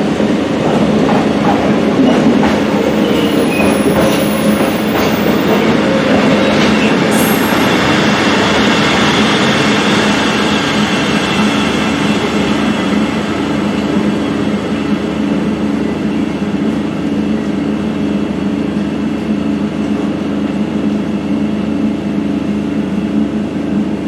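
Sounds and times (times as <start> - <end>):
train diesel engine running: 0.0 - 24.0.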